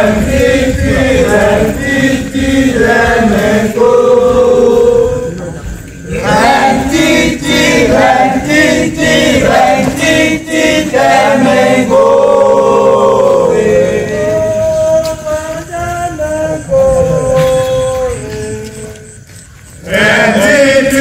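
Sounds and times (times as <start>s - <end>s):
group singing in chorus: 0.0s - 21.0s.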